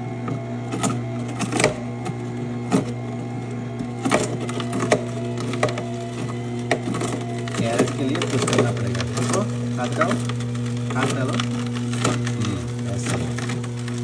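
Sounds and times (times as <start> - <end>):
juicer motor humming: 0.0 - 14.0.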